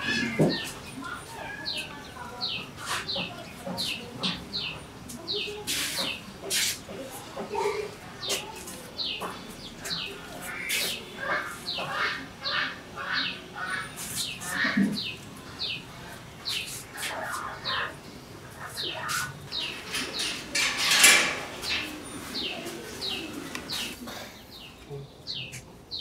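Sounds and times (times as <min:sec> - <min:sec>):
birds chirping: 0:00.0 - 0:26.0
harsh bird calls: 0:00.0 - 0:26.0.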